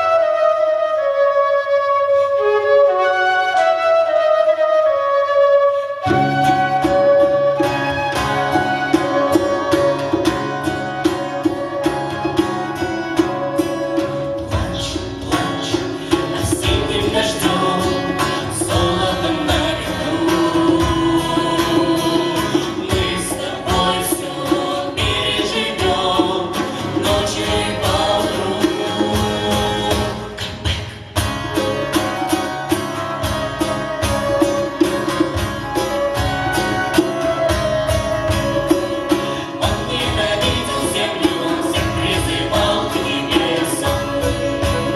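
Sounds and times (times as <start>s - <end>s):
band playing with singing: 5.7s - 44.9s.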